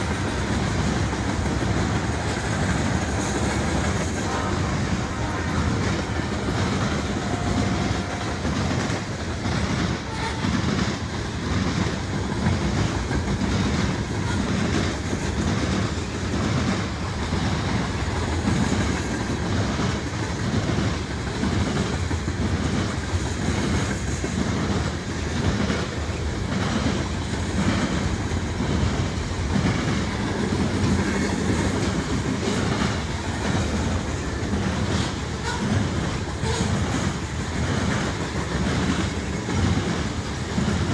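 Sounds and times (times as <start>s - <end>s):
freight train wheels rumbling: 0.0s - 40.9s
train wheels clickety-clack: 0.0s - 40.9s.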